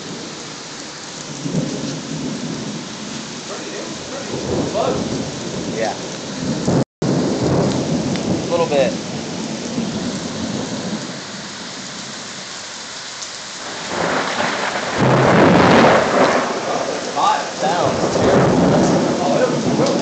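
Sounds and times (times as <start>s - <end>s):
thunder rumbling: 0.0s - 12.3s, 13.6s - 20.0s
heavy rain: 0.0s - 20.0s.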